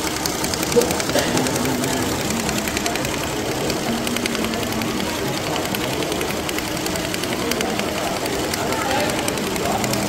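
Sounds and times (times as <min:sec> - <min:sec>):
embroidery machine needle clicking: 0:00.0 - 0:10.0.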